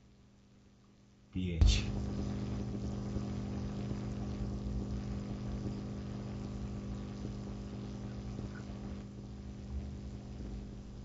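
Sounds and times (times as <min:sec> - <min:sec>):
faint hiss: 0:01.4 - 0:11.0.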